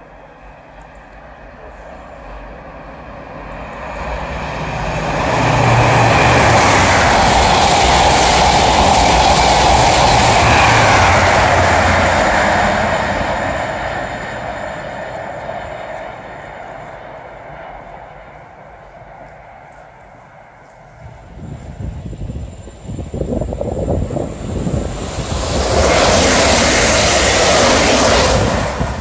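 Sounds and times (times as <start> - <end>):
high-speed train passing: 0.0 - 29.0.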